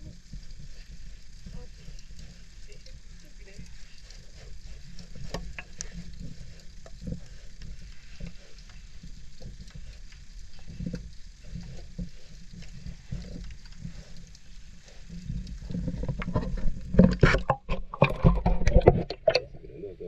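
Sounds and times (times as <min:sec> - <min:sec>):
crackles and ticks: 0:00.0 - 0:20.0
seawater sloshing and lapping: 0:00.0 - 0:20.0.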